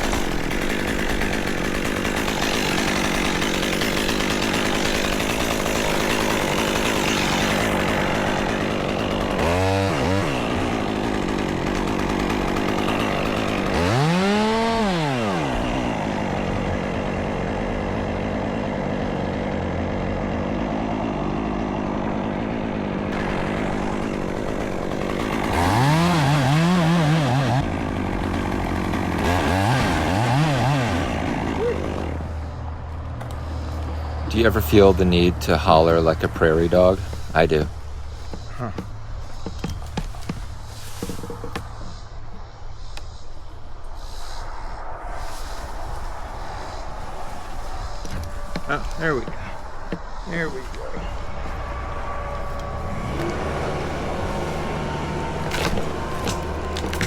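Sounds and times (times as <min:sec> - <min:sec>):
chainsaw revving: 0:00.0 - 0:41.8, 0:48.0 - 0:57.0.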